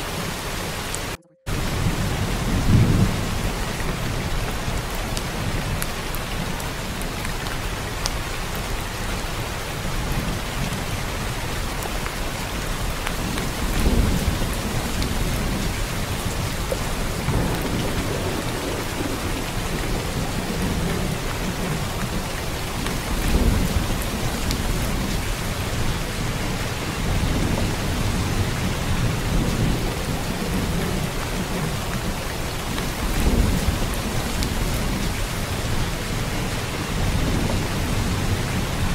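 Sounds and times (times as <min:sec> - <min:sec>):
steady rain: 0:00.0 - 0:38.9
low thunder rumbles: 0:00.2 - 0:07.1, 0:12.2 - 0:38.9.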